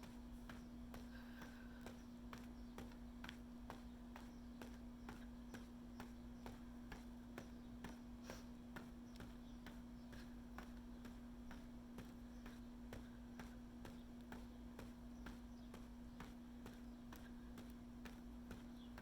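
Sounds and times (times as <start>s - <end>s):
footsteps walking: 0.0s - 19.0s
steady low hum: 0.0s - 19.0s.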